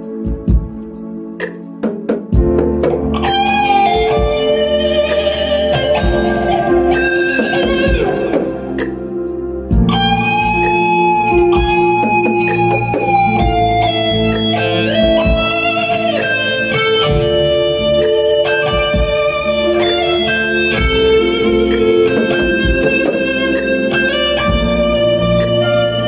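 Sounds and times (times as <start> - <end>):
steady drum beat: 0.0 - 20.0, 20.6 - 25.6
electric guitar melody: 0.0 - 26.0
bass: 2.4 - 26.0.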